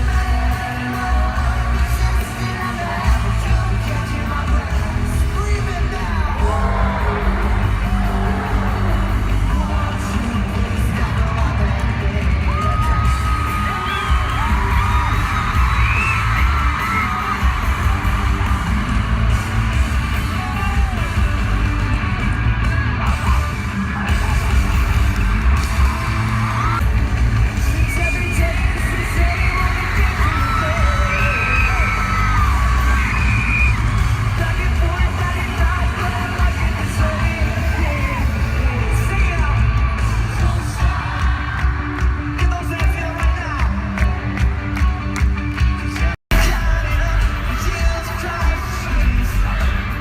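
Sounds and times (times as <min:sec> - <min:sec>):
boomy bass: 0:00.0 - 0:45.0, 0:45.6 - 0:50.0
fans yelling and singing along: 0:00.0 - 0:50.0
live pop-rock band playing: 0:00.0 - 0:50.0.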